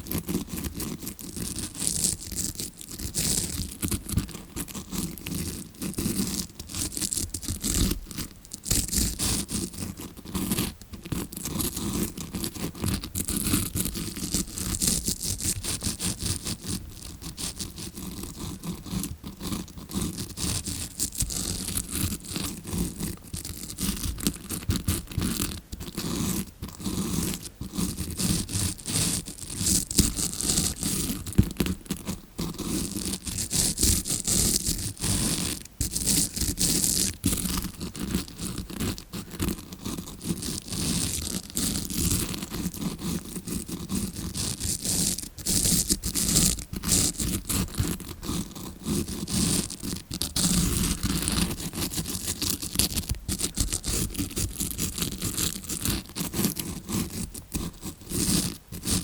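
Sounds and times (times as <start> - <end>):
scrubbing brush scratching: 0.0 - 59.0.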